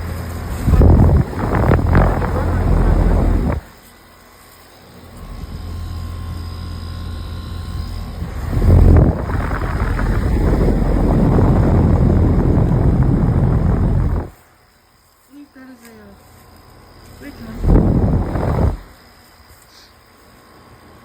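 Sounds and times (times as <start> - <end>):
fan air rushing: 0.0 - 21.0
heat pump unit humming: 0.0 - 21.0.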